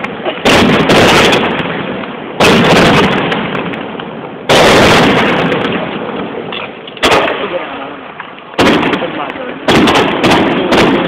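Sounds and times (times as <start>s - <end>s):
firework booms echoing: 0.0s - 11.0s.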